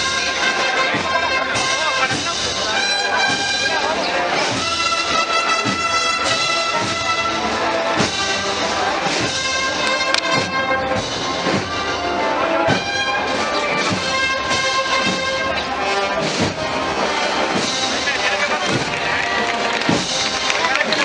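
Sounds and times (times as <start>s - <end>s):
drum strokes: 0.0s - 21.0s
marching band brass melody: 0.0s - 21.0s.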